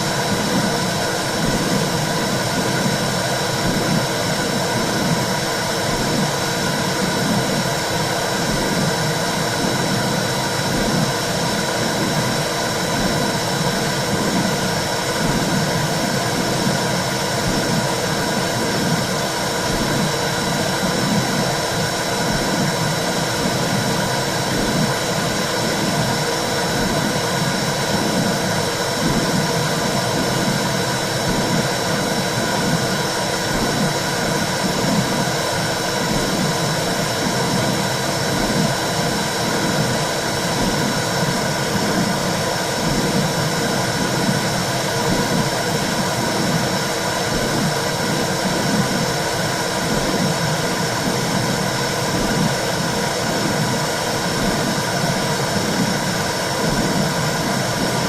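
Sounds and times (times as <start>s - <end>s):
low rhythmic pulse: 0.0s - 58.0s.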